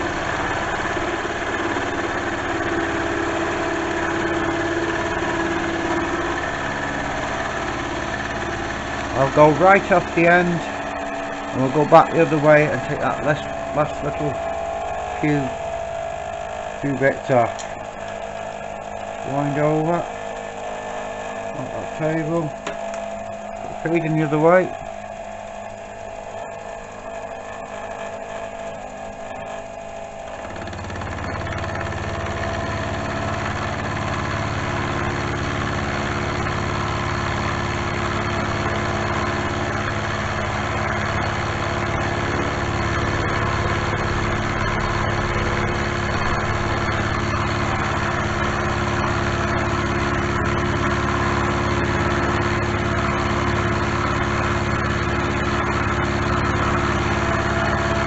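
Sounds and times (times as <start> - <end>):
end mill cutting steel: 0.0 - 58.0
milling machine running: 0.0 - 58.0.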